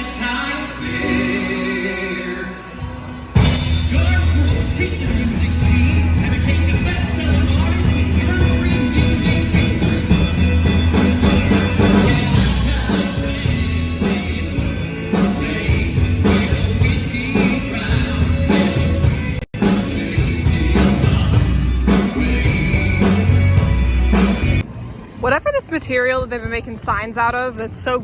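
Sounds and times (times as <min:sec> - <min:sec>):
country song over loudspeakers: 0:00.0 - 0:24.6.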